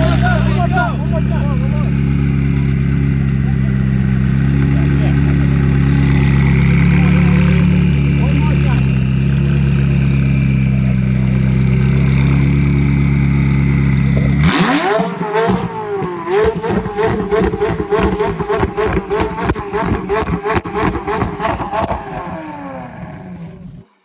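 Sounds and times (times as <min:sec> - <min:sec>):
rapid throttle blips: 0:00.0 - 0:22.8
sports car engine revving: 0:00.0 - 0:23.9.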